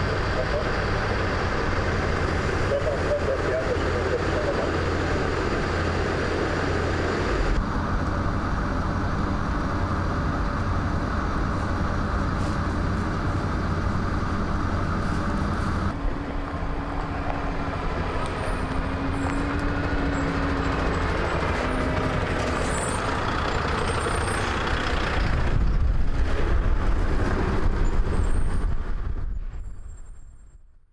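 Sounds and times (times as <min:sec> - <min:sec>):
diesel engine hum: 0:00.0 - 0:30.4
fire trucks driving on dirt track: 0:00.0 - 0:30.7.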